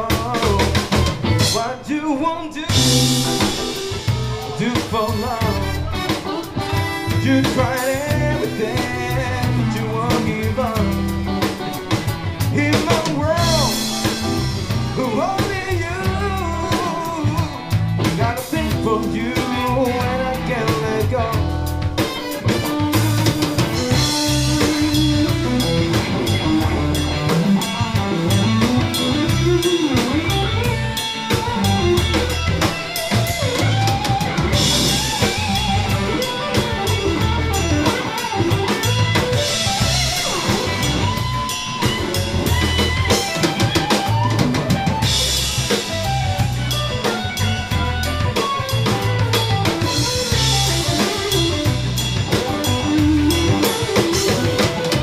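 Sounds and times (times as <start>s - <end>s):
drum kit beat: 0.0s - 55.0s
rock band playing instrumental: 0.0s - 55.0s.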